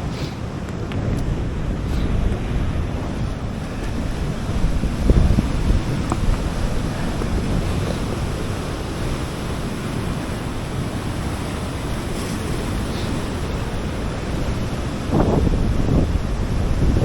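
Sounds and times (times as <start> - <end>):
sea waves washing on shore: 0.0 - 17.0
wind noise on microphone: 0.0 - 17.0.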